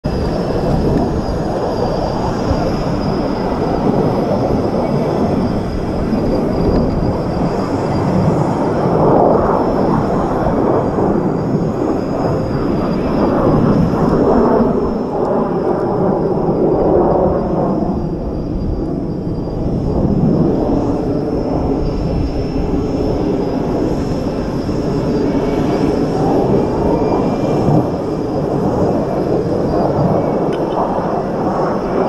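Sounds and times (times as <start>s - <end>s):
jet engines rushing overhead: 0.0s - 32.0s.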